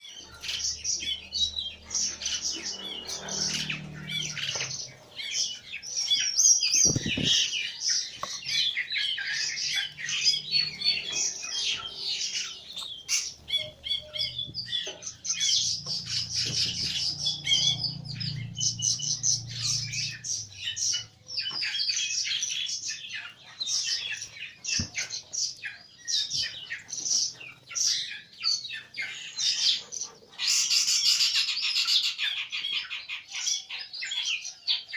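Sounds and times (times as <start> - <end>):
birds chirping and squawking: 0.0 - 34.9.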